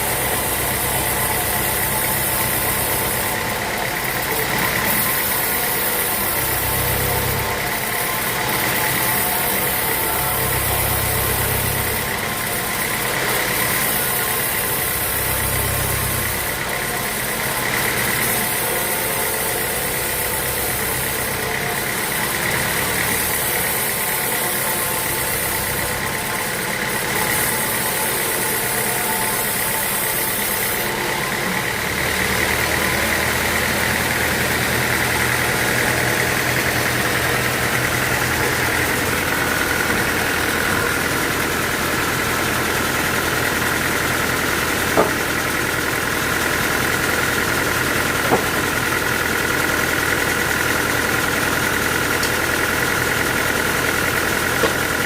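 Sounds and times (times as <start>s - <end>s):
high machine whine: 0.0s - 55.0s
sawmill machinery drone: 0.0s - 55.0s.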